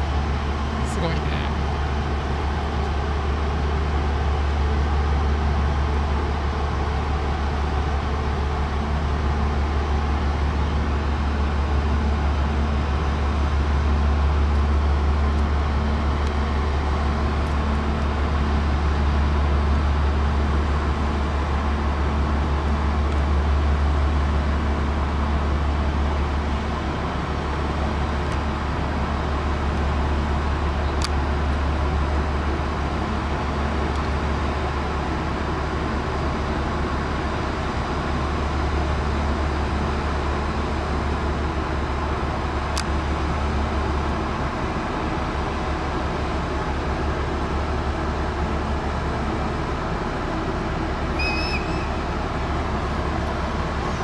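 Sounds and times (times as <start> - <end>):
ship diesel engines humming: 0.0 - 54.0.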